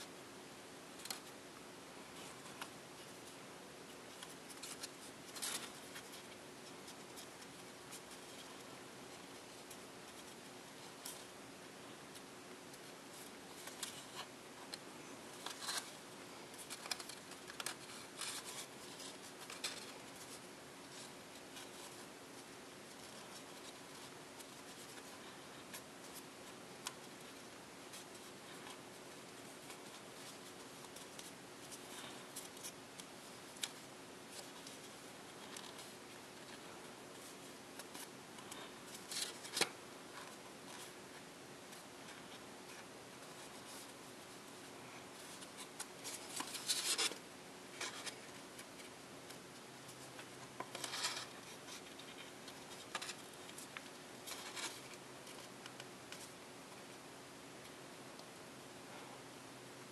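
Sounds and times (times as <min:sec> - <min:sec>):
faint steady hum: 0:00.0 - 0:59.9
paper crinkling: 0:02.0 - 0:56.4.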